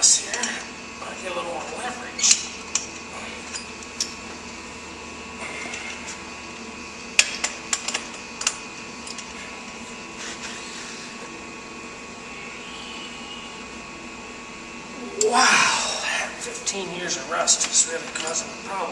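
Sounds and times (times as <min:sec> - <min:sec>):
mechanical hum: 0:00.0 - 0:18.9.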